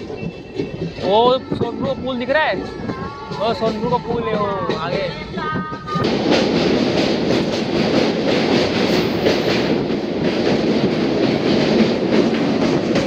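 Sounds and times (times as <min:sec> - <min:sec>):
train rumbling over bridge: 0:00.0 - 0:13.0.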